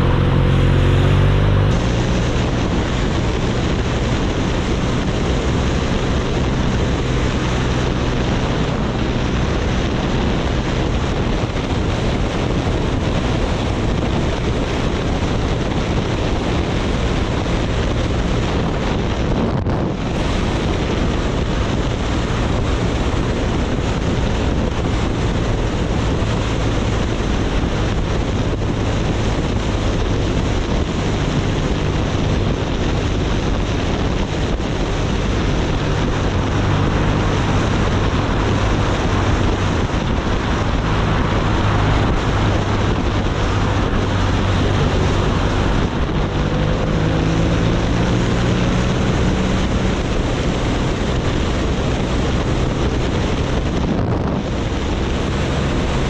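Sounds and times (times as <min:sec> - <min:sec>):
motorcycle engine drone: 0:00.0 - 0:56.0
wind buffeting microphone: 0:00.0 - 0:56.0.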